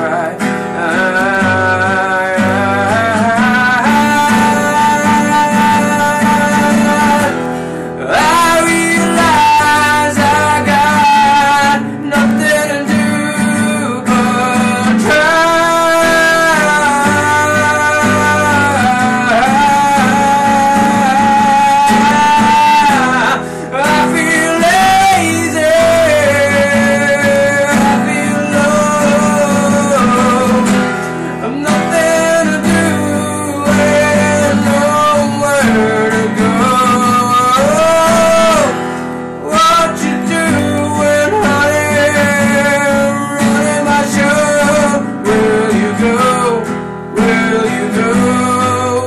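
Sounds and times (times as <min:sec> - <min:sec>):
acoustic guitar: 0:00.0 - 0:49.0
man singing: 0:00.0 - 0:49.0.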